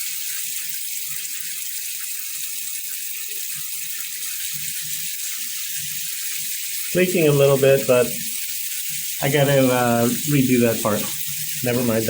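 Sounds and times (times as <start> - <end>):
shower water spraying: 0.0 - 12.0.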